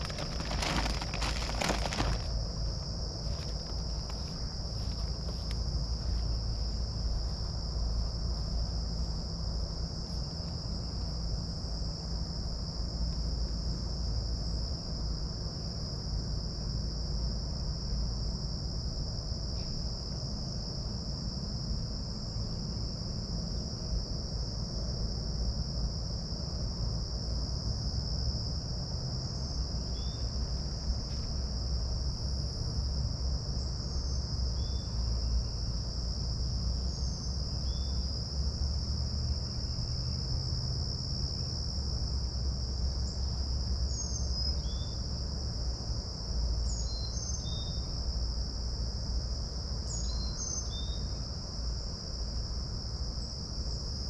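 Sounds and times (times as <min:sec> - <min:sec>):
insect chorus drone: 0:00.0 - 0:54.0.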